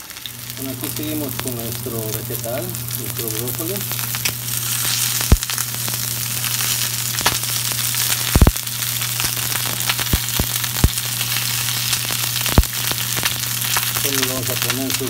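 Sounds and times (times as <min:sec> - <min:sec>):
broccoli sizzling in a frying pan: 0:00.0 - 0:15.0
low hum: 0:00.0 - 0:15.0.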